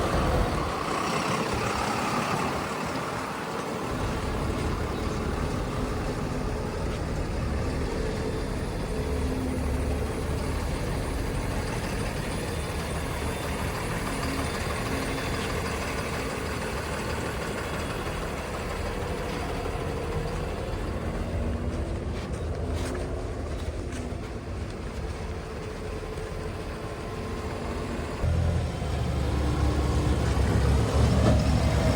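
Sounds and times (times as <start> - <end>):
heavy diesel engine running: 0.0 - 31.9.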